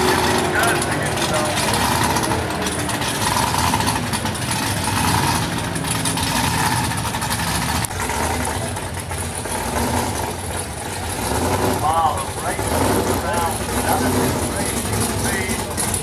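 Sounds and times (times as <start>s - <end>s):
outdoor background noise: 0.0s - 16.0s
vehicle engine idling: 0.0s - 16.0s.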